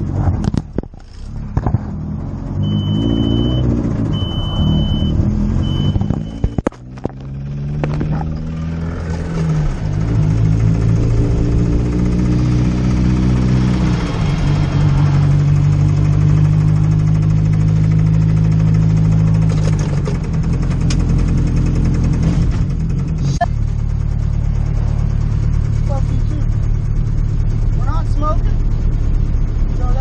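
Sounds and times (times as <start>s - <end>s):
car engine droning: 0.0s - 30.0s.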